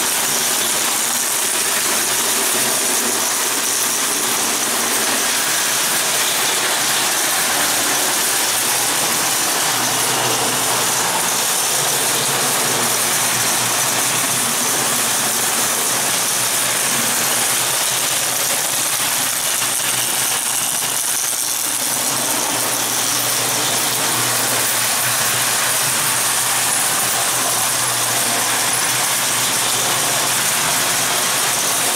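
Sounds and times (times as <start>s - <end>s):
toy train wheels rattling: 0.0s - 31.9s.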